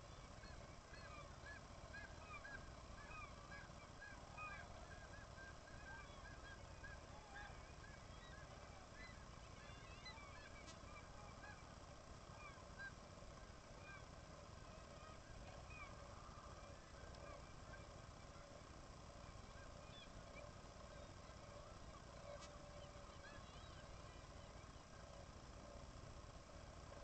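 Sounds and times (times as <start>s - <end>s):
seabird colony calling: 0.0s - 25.8s.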